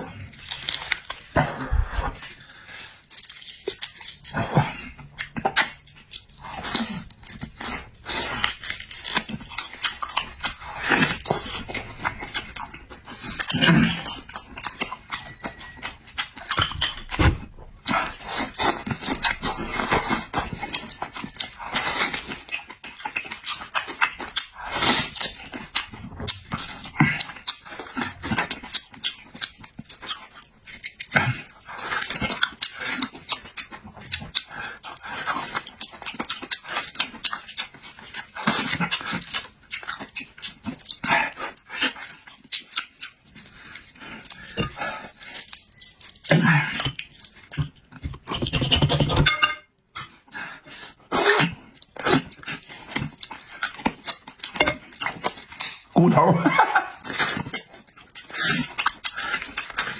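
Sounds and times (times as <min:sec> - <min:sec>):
person chewing and lip-smacking: 0:00.0 - 0:59.9.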